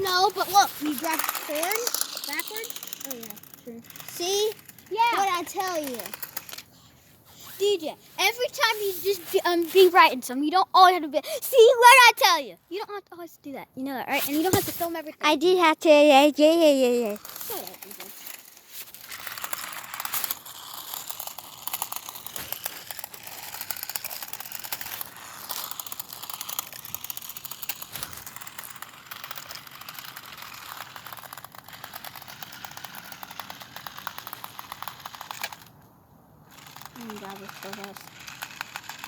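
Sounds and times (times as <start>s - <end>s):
toy car motor whirring: 0.0s - 13.3s, 14.1s - 35.8s, 36.4s - 39.0s.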